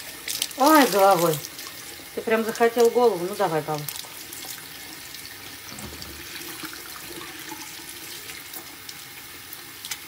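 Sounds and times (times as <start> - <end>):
water running into sink: 0.0 - 10.0.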